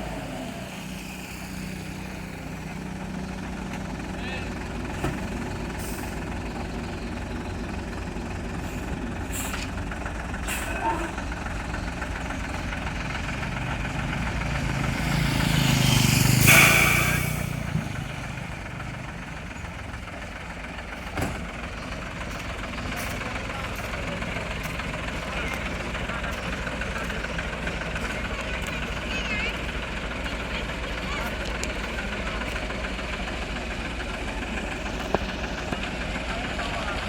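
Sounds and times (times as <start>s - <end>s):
truck diesel engine running: 0.0s - 37.0s.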